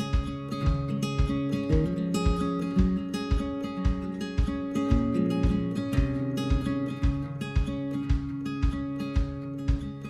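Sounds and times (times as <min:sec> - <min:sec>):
acoustic guitar: 0:00.0 - 0:10.0
steady low beat: 0:00.0 - 0:10.0.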